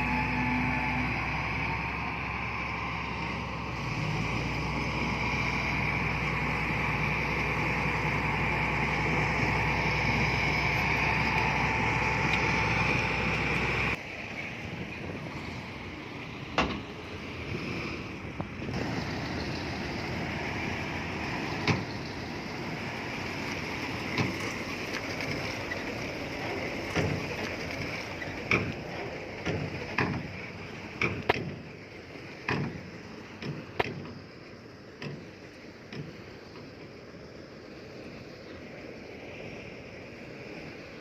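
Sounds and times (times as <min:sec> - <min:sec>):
heavy machinery running: 0:00.0 - 0:35.4.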